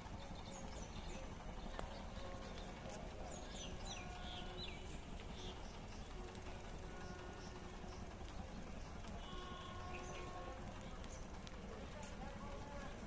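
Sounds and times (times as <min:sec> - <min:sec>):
faint steady rumble: 0:00.0 - 0:13.0
small birds chirping: 0:00.0 - 0:13.0.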